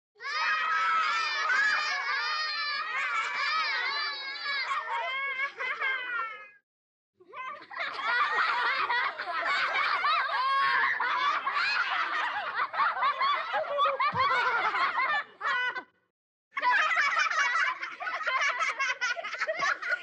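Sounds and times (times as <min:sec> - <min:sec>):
children laughing: 0:00.2 - 0:06.6, 0:07.3 - 0:16.0, 0:16.6 - 0:20.0.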